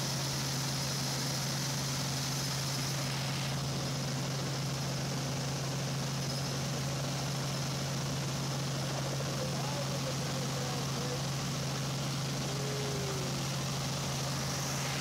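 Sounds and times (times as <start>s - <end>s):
helicopter droning: 1.8s - 15.0s.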